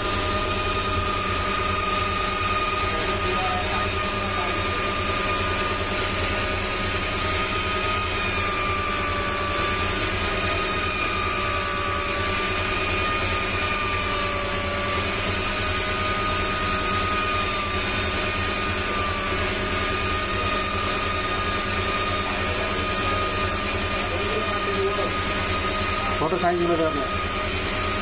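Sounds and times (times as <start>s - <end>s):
rotary tool whining: 0.0s - 28.0s.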